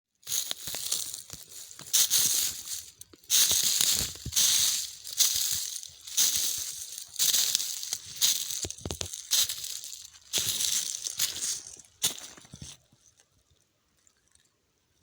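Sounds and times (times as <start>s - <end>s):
footsteps crunching dry leaves: 0.2s - 12.9s.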